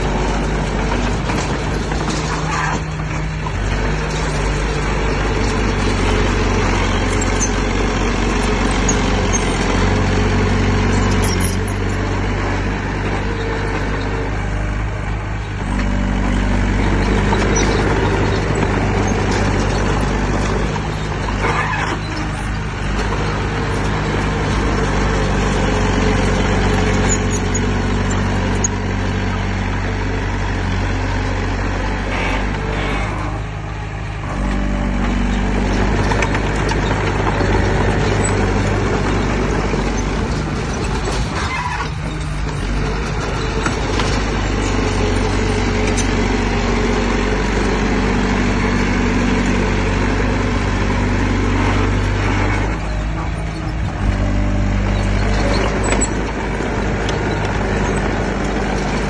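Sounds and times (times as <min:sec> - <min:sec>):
diesel earthmoving machinery running: 0:00.0 - 0:59.0.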